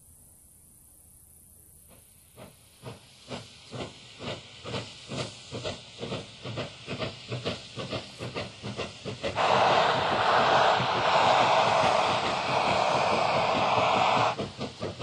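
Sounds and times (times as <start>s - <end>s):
steam locomotive exhaust chuffing: 1.9s - 15.0s.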